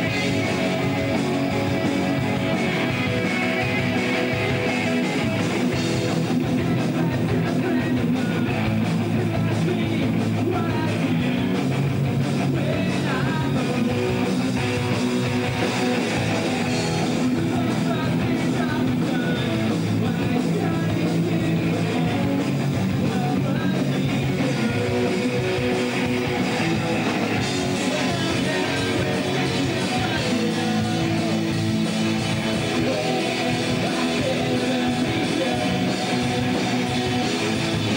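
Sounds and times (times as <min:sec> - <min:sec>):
electric guitars: 0:00.0 - 0:37.9
live rock band playing: 0:00.0 - 0:37.9.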